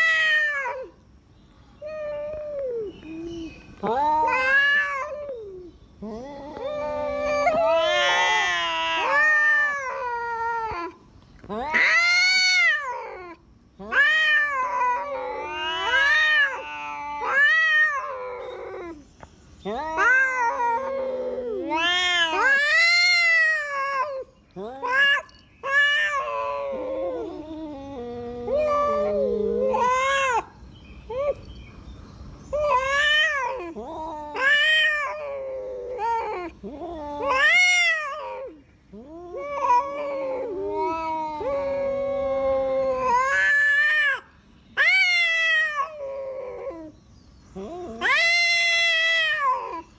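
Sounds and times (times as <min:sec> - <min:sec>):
cats yowling: 0:00.0 - 0:01.0, 0:01.8 - 0:19.0, 0:19.6 - 0:31.5, 0:32.5 - 0:47.0, 0:47.6 - 0:49.9.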